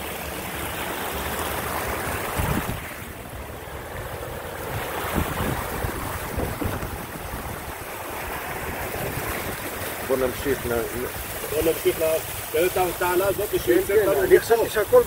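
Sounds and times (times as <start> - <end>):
floodwater rushing: 0.0 - 15.0
wind buffeting microphone: 2.0 - 15.0.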